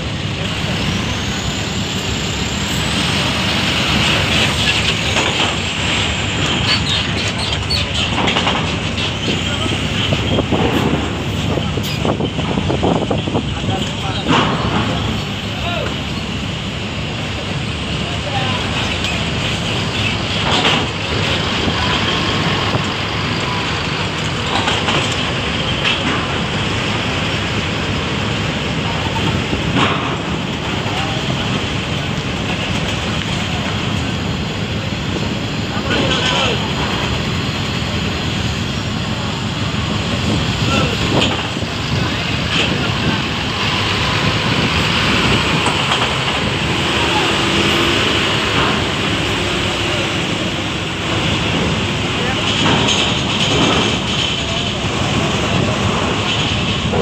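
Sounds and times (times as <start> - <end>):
bus diesel engines rumbling: 0.0 - 57.0.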